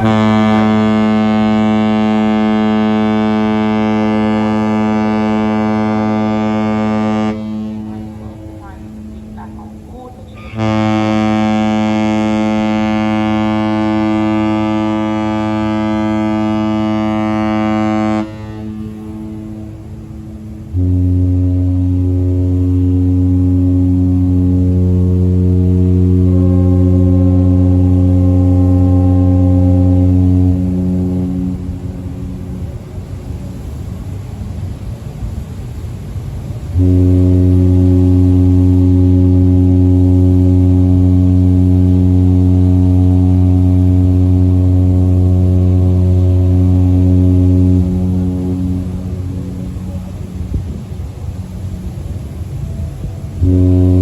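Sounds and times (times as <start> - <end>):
deep ship's horn blast: 0.0 - 54.0
faint ship's horn: 0.0 - 54.0
low rumbling background: 0.0 - 54.0.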